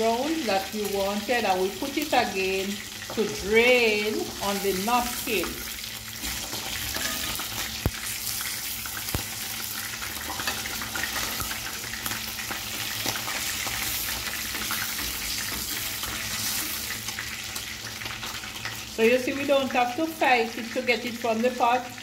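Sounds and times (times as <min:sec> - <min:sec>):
fish sizzling in oil: 0:00.0 - 0:22.0.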